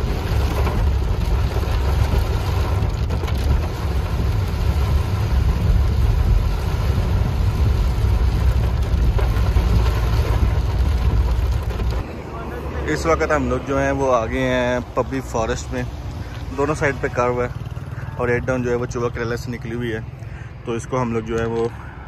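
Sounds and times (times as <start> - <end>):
tyres hissing on wet road: 0.0 - 18.2
engine and road rumble: 0.0 - 22.0.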